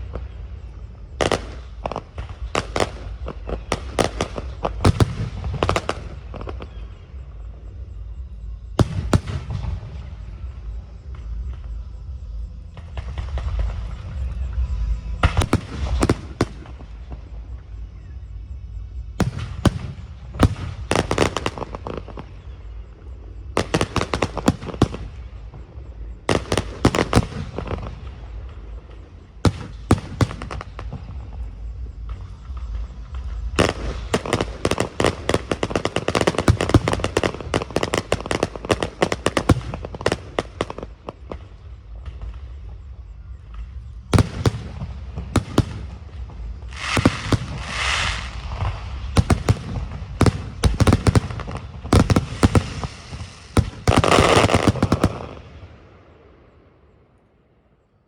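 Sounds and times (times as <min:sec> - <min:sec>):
fireworks crackling bangs: 0:00.0 - 0:06.9, 0:08.8 - 0:17.6, 0:19.2 - 0:56.2.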